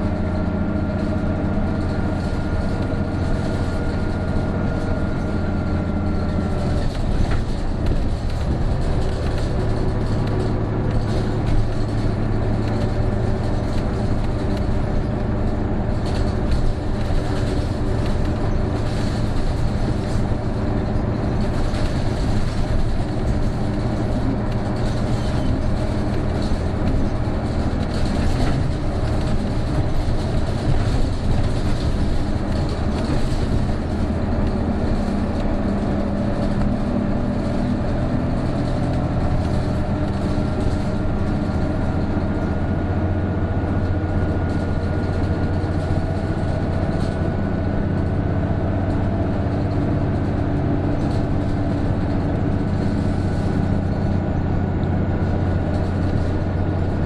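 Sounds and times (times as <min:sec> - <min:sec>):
bus diesel engine under load: 0:00.0 - 0:57.0.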